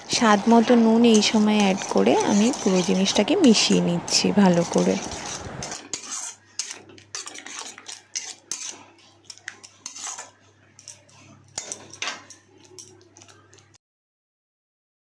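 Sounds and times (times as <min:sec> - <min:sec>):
metal spatula scraping a pan: 0:00.0 - 0:13.8.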